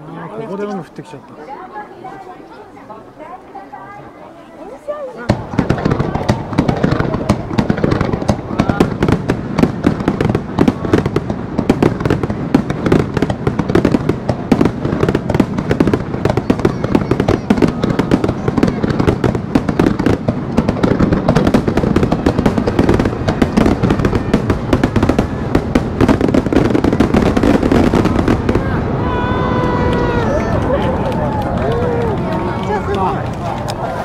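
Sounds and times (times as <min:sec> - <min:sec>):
fireworks bangs and crackles: 0:04.6 - 0:34.0.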